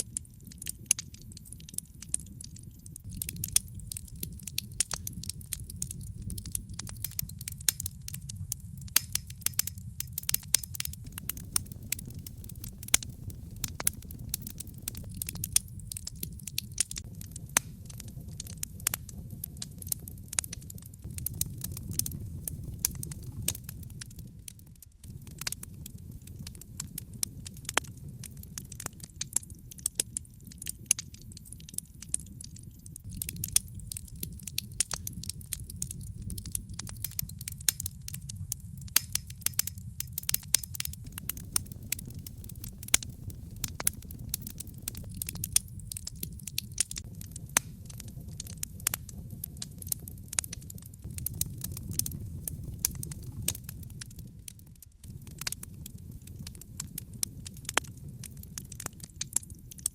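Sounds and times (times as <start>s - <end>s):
burning logs popping: 0.0s - 59.9s
low rumble of flames: 0.0s - 59.9s.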